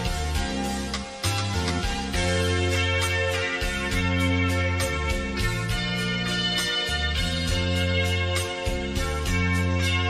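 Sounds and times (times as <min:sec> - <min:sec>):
instrumental music with beat and bass: 0:00.0 - 0:10.0.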